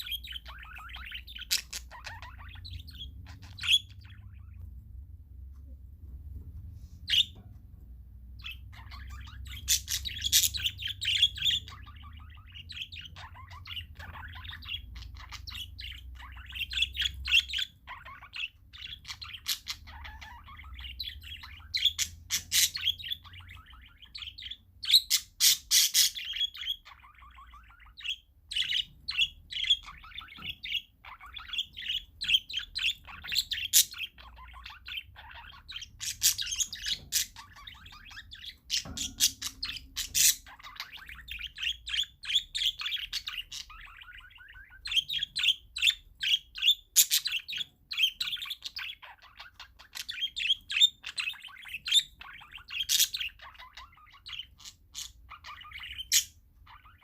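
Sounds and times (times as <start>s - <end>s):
parakeets chirping and squawking: 0.0s - 5.6s, 6.3s - 57.0s.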